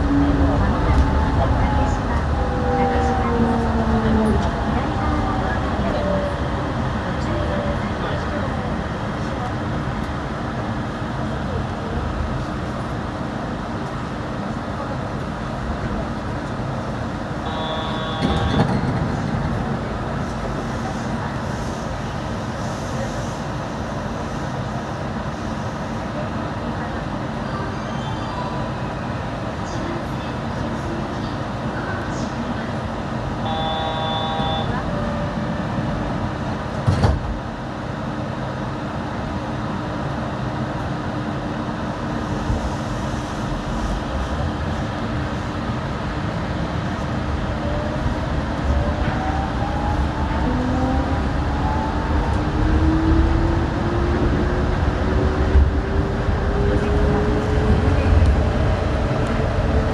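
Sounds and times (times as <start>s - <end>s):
train running rumble: 0.0s - 27.4s, 28.8s - 59.9s.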